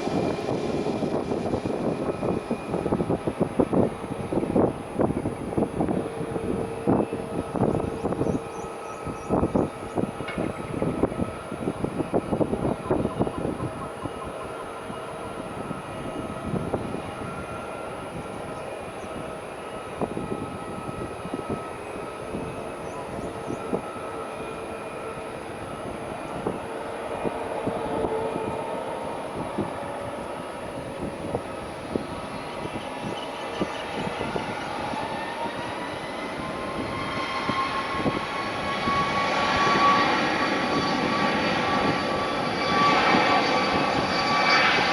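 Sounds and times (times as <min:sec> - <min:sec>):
distant jet engines spooling up: 0:00.0 - 0:44.9.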